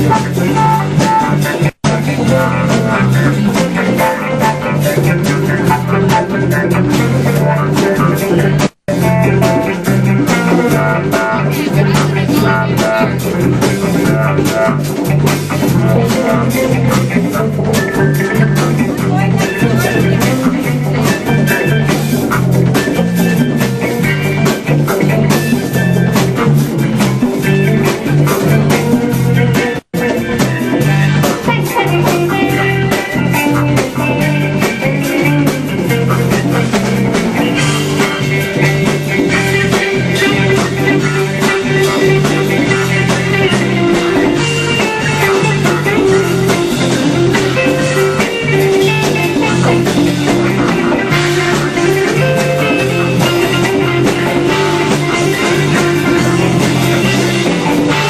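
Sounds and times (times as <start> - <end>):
electric guitar: 0.0 - 58.0
live band instrumental jam: 0.0 - 58.0.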